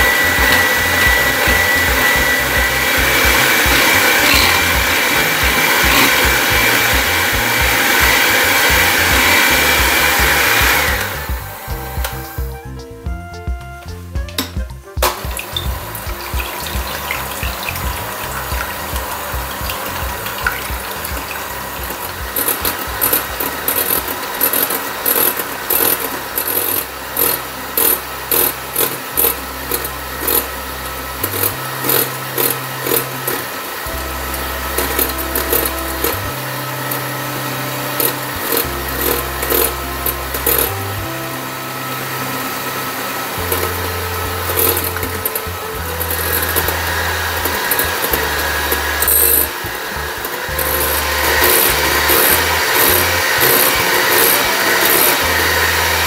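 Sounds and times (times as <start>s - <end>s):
electric hand mixer running: 0.0s - 12.5s, 15.0s - 56.0s
background music with bass: 0.0s - 56.0s.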